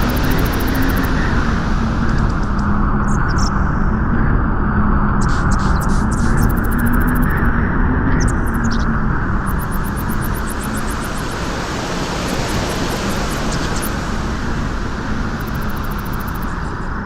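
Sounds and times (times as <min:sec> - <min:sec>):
wind rushing with low rumble: 0:00.0 - 0:17.0.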